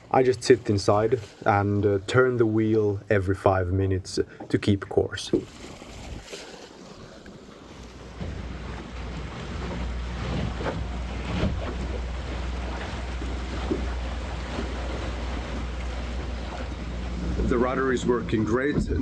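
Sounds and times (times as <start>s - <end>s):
water splashing along boat hull: 0.0s - 19.0s.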